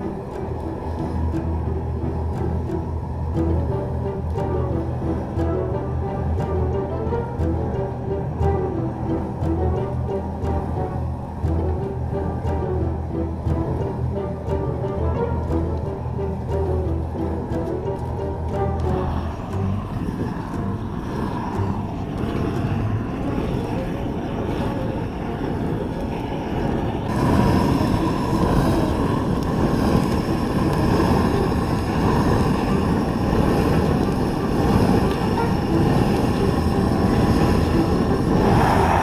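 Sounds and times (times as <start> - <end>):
flame gun burning jet: 0.0 - 39.0.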